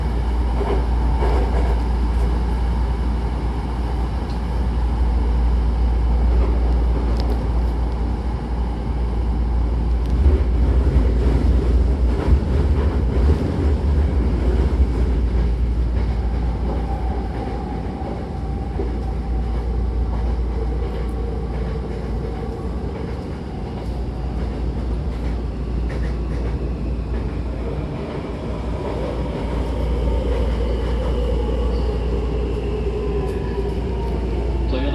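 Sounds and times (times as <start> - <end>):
electric train rumbling on rails: 0.0 - 34.9.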